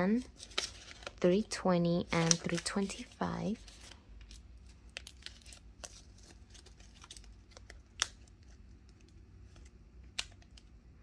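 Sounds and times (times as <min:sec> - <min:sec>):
banknotes rustling: 0:00.0 - 0:09.8.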